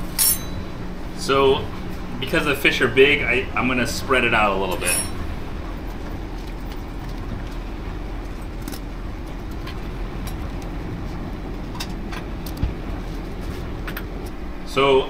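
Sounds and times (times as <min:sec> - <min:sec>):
kitchen fan hum: 0:00.0 - 0:15.0.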